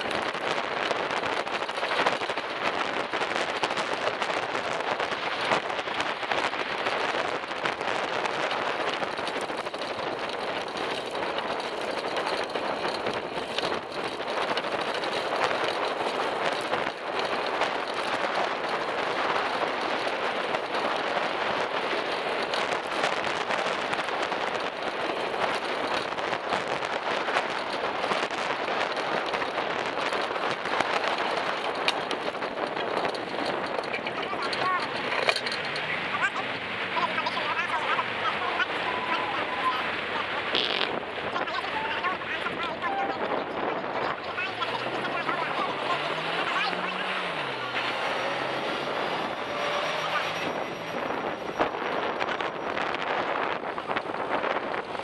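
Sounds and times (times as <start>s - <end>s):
bicycle tyre noise with rattles: 0.0s - 55.0s
motor traffic: 0.0s - 55.0s.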